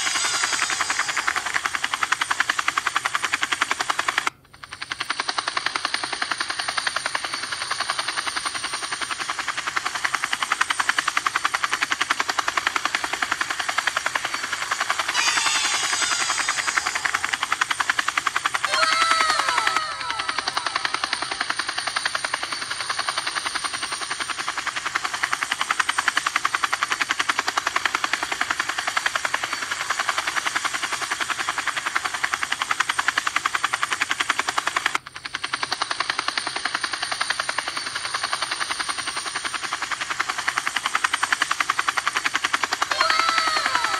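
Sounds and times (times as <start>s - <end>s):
toy helicopter rotor chopping: 0.0s - 43.9s.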